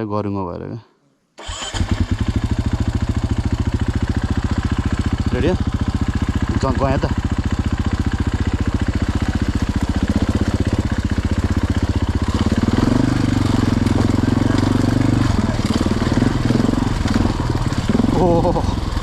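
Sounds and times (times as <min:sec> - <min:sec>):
dirt bike engine: 0:01.4 - 0:19.0.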